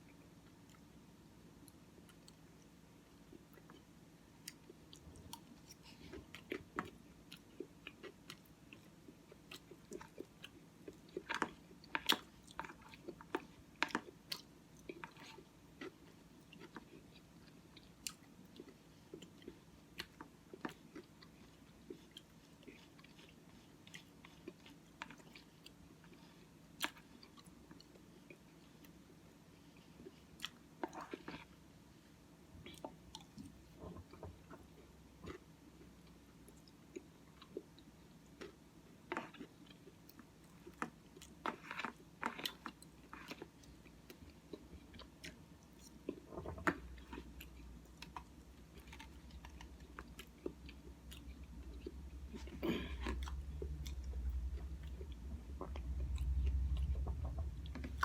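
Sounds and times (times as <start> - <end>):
faint low hum: 0.0 - 58.0
person chewing: 3.3 - 31.6, 32.6 - 58.0.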